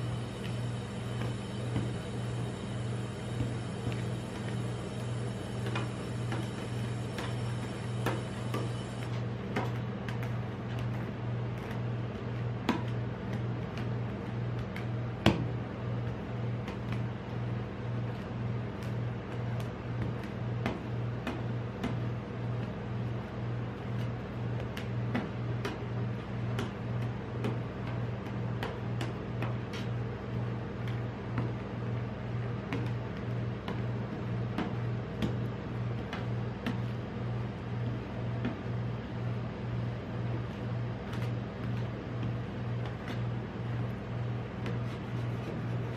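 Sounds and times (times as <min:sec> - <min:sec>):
refrigeration unit humming: 0:00.0 - 0:45.9.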